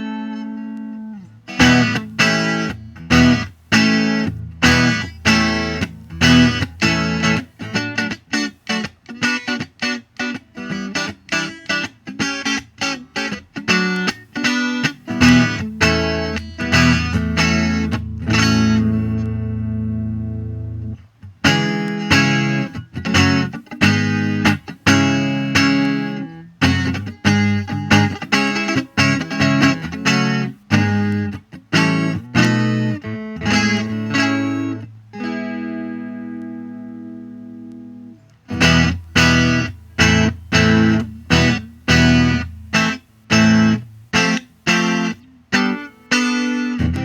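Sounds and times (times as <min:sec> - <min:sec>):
twelve-string electric guitar chords: 0:00.0 - 0:47.0.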